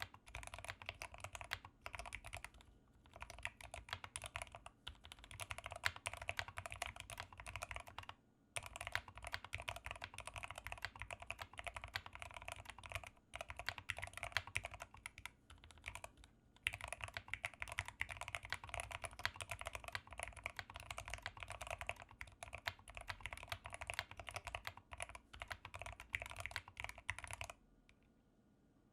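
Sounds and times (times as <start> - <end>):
mechanical keyboard typing: 0.0 - 27.6.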